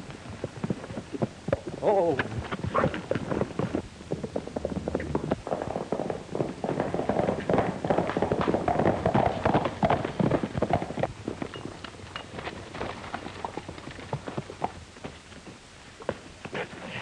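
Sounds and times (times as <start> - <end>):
horse hoofbeats galloping: 0.0 - 17.0.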